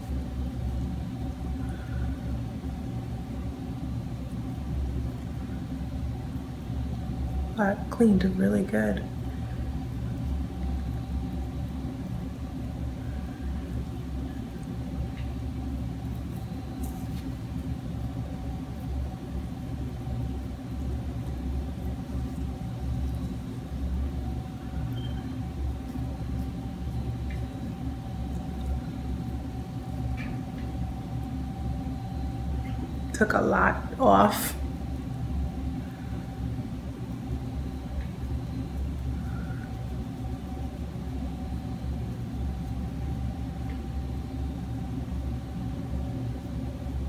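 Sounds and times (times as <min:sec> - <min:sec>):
faint steady hum: 0:00.0 - 0:47.0
low room rumble: 0:00.0 - 0:47.0.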